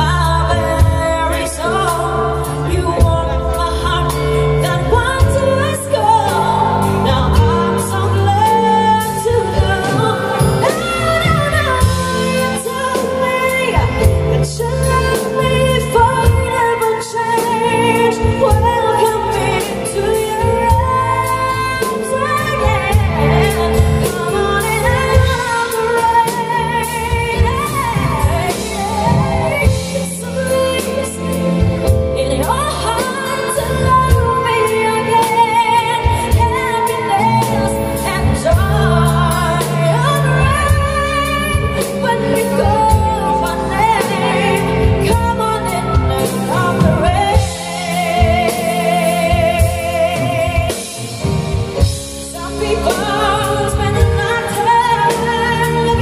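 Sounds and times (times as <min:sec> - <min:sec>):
band with drums and cymbals: 0:00.0 - 0:56.0
woman singing into microphone: 0:00.0 - 0:56.0.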